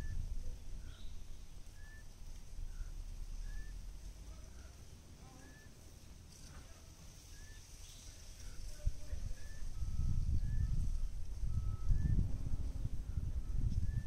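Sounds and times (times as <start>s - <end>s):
wind rumble on microphone: 0.0s - 4.5s, 7.2s - 14.0s
birds chirping: 0.0s - 14.0s.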